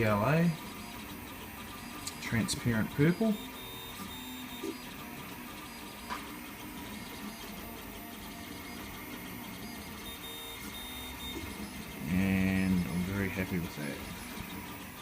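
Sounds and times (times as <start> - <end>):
printer motors whirring: 0.0 - 15.0.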